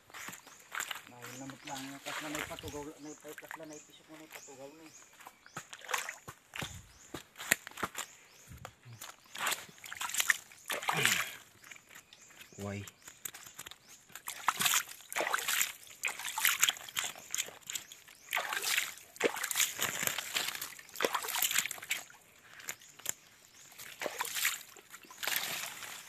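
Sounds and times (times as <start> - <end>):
muddy water splashing: 0.2 - 8.0, 9.0 - 26.0.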